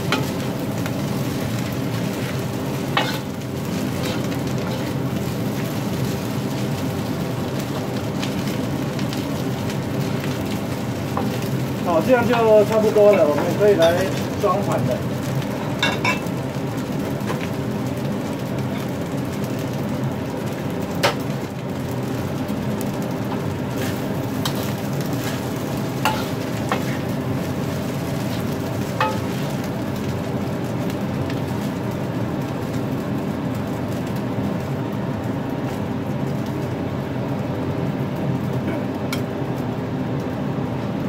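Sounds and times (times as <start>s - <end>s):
rice sizzling in a wok: 0.0s - 41.0s.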